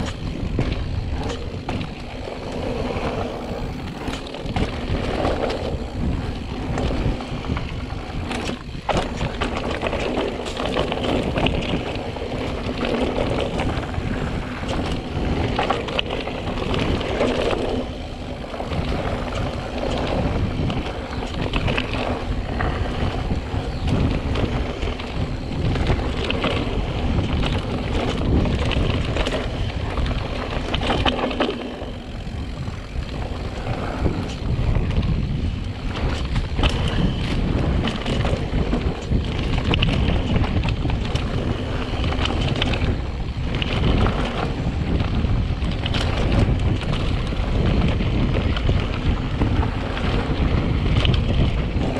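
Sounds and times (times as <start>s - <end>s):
bike knocking and rattling: 0.0s - 51.9s
bike tyres rumbling over dirt: 0.0s - 51.9s
wind noise on microphone: 0.0s - 51.9s.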